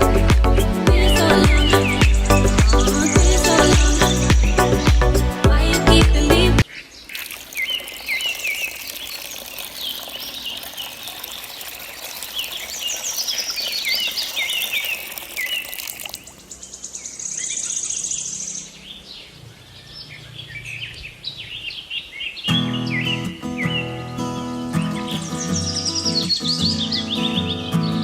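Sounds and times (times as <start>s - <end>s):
small birds chirping: 0.9s - 5.2s, 6.6s - 28.0s.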